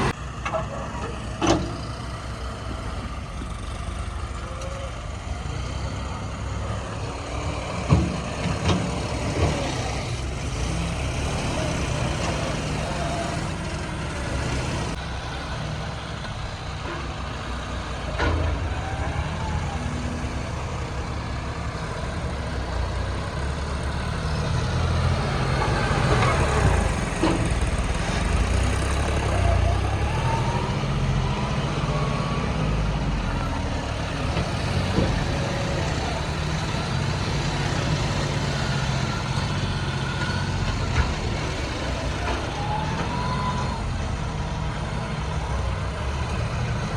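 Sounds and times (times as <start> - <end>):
heavy diesel engines running: 0.0 - 46.9.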